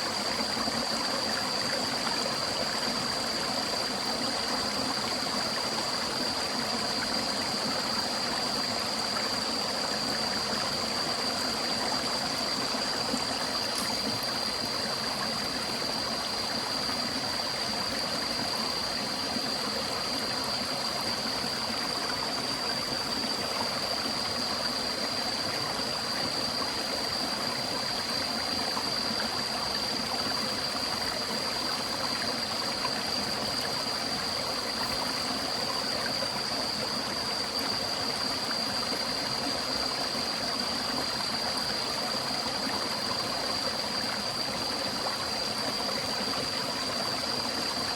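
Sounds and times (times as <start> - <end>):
stream water rushing and trickling: 0.0 - 47.9.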